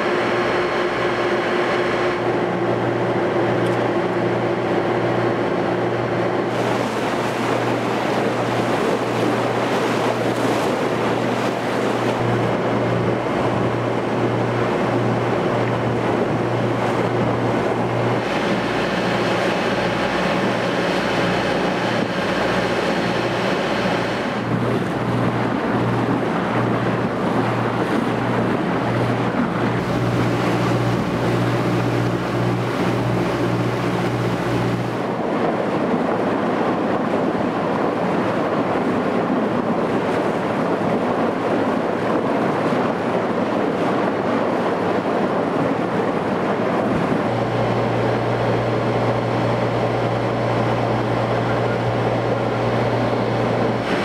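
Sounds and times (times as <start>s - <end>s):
ferry engine low hum: 0.0s - 54.0s
water rushing along hull: 0.0s - 54.0s
wind on microphone: 0.0s - 54.0s.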